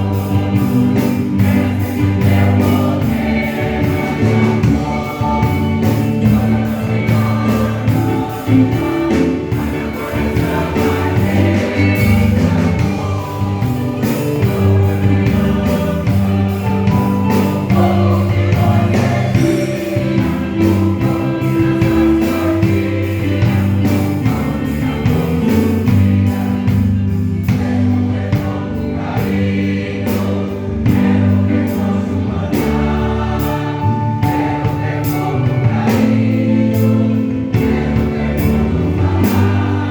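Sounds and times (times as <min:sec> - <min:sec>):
gospel choir singing: 0:00.0 - 0:39.9
instrumental accompaniment: 0:00.0 - 0:39.9
steady percussive beat: 0:00.0 - 0:39.9.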